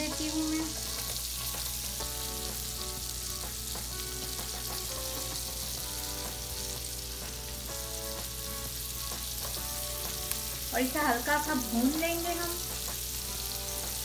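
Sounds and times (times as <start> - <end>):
onion sizzling in butter: 0.0 - 14.0.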